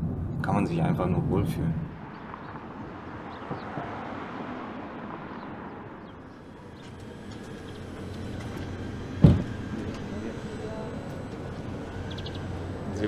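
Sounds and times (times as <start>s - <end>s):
car traffic rumble: 0.0s - 13.0s.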